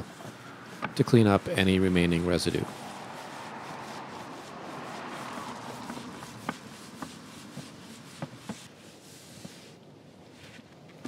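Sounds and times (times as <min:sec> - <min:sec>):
steel wool rubbing wood: 0:00.0 - 0:10.6.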